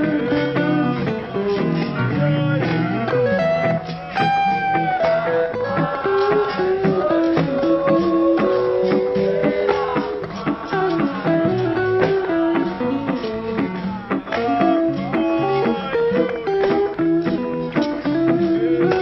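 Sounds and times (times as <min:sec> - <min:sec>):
blues guitar melody: 0:00.0 - 0:19.0.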